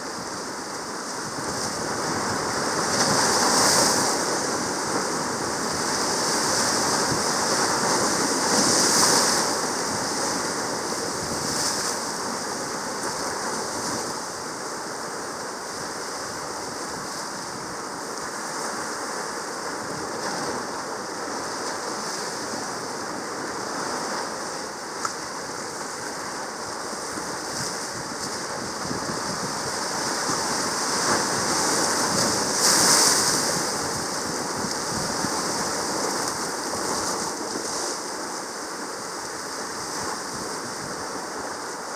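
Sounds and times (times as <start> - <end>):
sea water rushing: 0.0 - 41.9.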